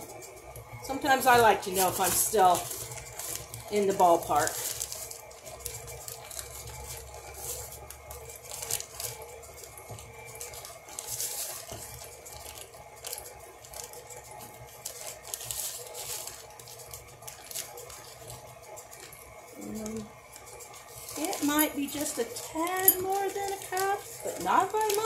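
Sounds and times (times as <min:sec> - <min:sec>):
stand mixer humming: 0:00.0 - 0:25.0
plastic bag crinkling: 0:00.1 - 0:25.0.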